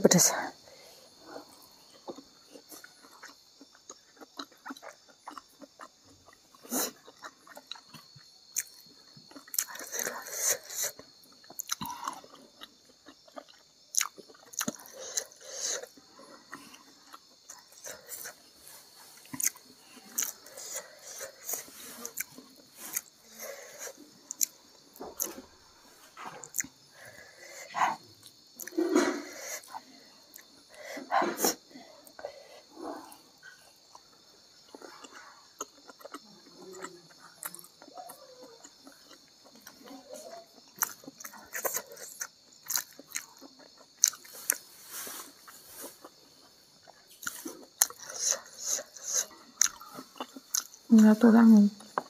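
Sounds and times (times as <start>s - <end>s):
person chewing and smacking: 1.5s - 18.5s, 19.1s - 25.6s, 26.3s - 30.8s, 33.7s - 44.7s, 45.3s - 50.9s.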